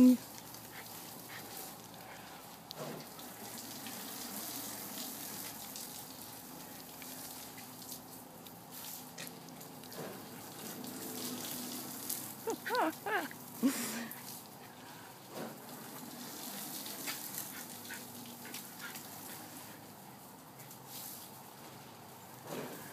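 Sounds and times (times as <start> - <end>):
sprinkler water spraying: 0.0 - 13.1, 15.3 - 21.6.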